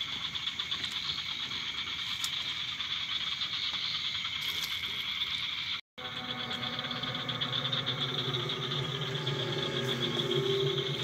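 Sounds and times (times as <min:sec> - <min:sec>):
frogs and insects trilling: 0:00.0 - 0:11.0.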